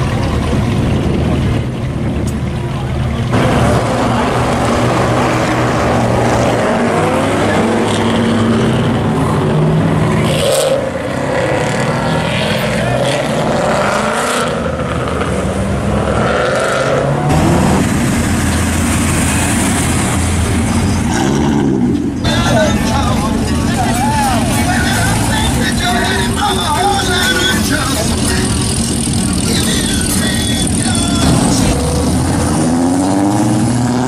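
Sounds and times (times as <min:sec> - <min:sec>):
muscle car engines revving: 0:00.0 - 0:34.0.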